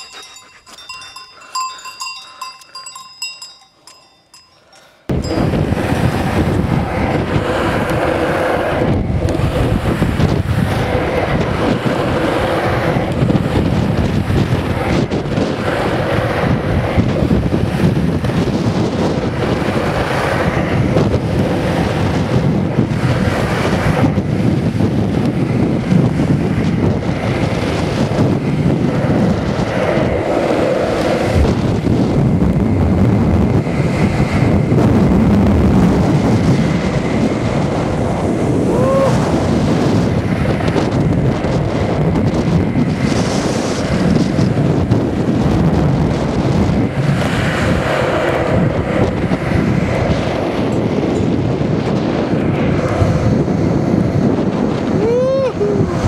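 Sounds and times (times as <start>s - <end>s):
wind buffeting microphone: 0.0s - 56.0s
skateboard wheels rolling on asphalt: 5.2s - 55.0s.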